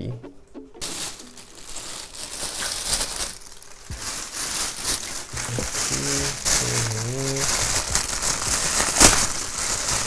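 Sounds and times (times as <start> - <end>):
plastic wrapping crinkling: 0.8 - 10.0.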